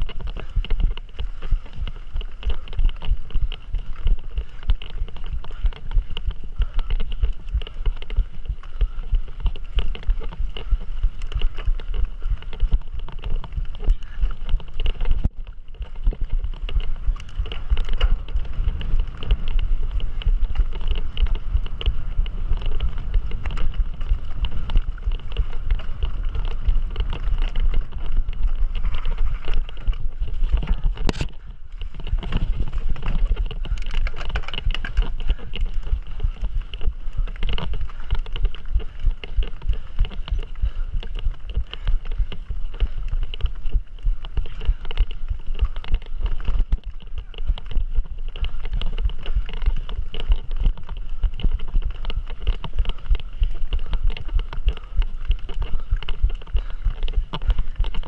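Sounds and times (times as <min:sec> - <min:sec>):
bike rattling over rough ground: 0:00.0 - 0:58.0
wind on microphone: 0:00.0 - 0:58.0.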